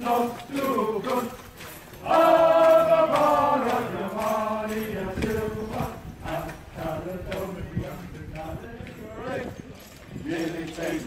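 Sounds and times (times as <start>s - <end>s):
marching footsteps: 0.0s - 11.0s
men chanting in unison: 0.0s - 11.0s.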